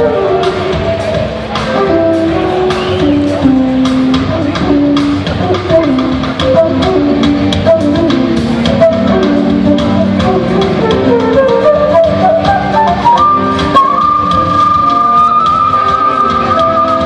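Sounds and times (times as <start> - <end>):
lead guitar line: 0.0 - 17.0
live rock band playing: 0.0 - 17.0.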